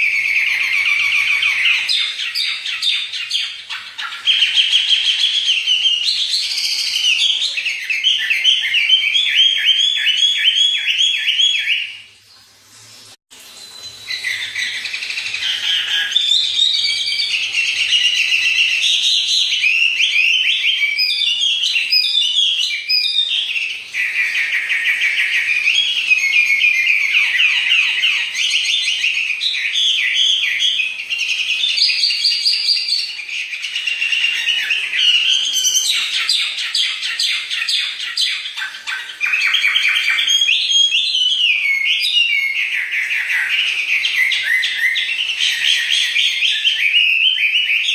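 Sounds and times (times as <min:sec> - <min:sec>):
songbird singing: 0:00.0 - 0:12.1, 0:13.5 - 0:47.9.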